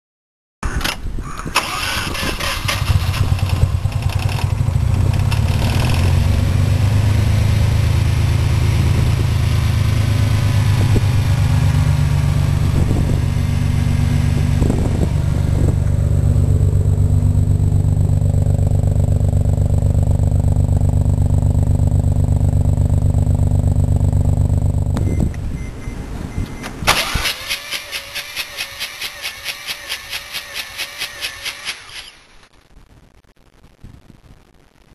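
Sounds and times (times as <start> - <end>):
rotary engine droning: 2.4 - 32.3.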